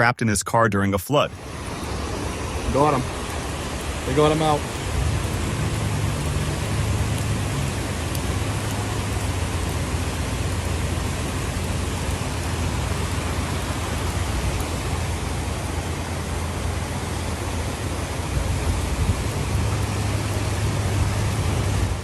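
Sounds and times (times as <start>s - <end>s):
heavy rain falling: 1.2s - 22.0s.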